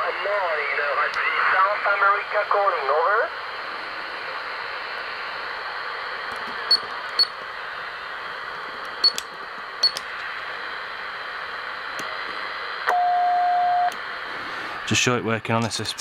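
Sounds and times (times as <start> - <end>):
radio receiver hiss: 0.0 - 16.0.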